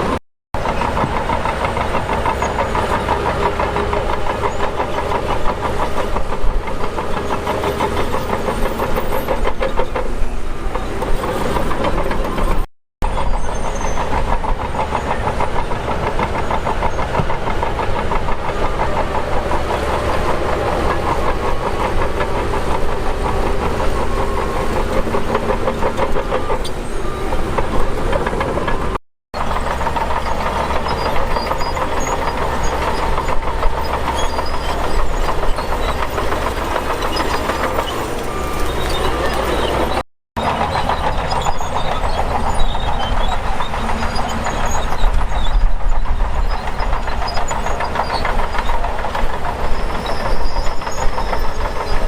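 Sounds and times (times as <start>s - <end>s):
diesel engine pulsing: 0.0s - 52.0s.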